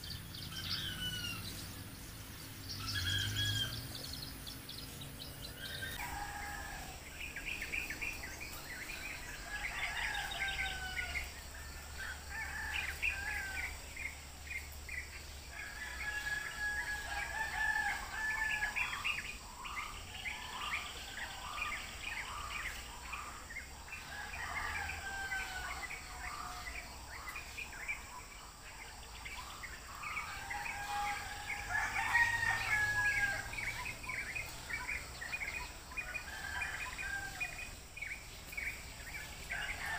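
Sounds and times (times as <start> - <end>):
birds calling with whistles and trills: 0.0 - 39.9.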